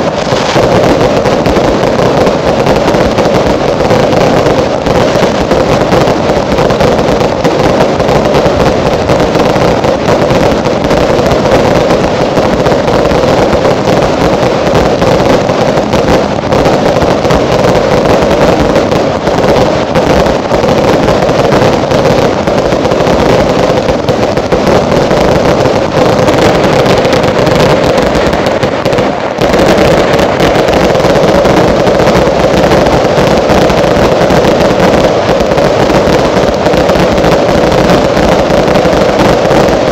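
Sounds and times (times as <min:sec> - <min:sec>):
fireworks barrage: 0:00.0 - 0:39.9.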